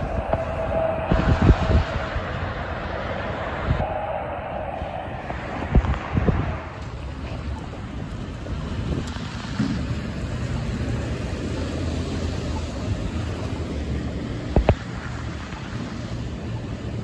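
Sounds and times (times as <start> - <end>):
traffic on wet road: 0.0 - 17.0.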